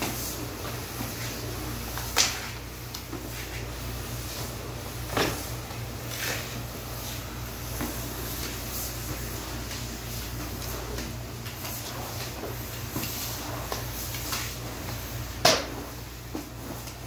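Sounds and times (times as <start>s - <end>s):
broom sweeping wet tiled floor: 0.0s - 17.0s
steady low hum: 0.0s - 17.0s.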